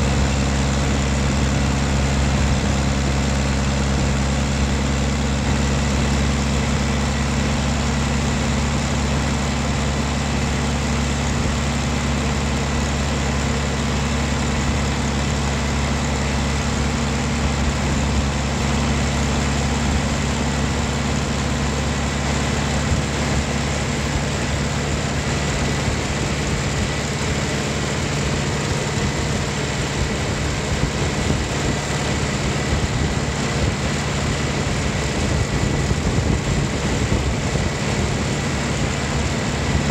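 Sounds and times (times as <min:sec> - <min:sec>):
tractor engine drone: 0:00.0 - 0:39.9.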